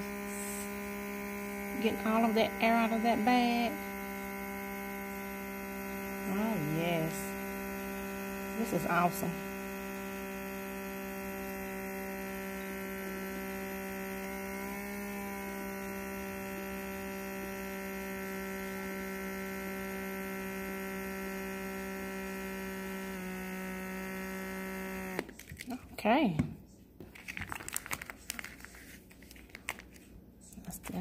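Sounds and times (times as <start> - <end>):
vacuum sealer pump humming: 0.0 - 25.6.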